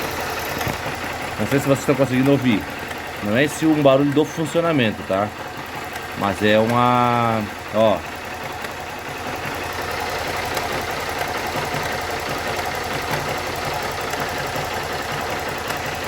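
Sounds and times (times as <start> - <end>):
light rapid ticking: 0.0 - 16.0
motorcycle engine idling: 0.0 - 16.0.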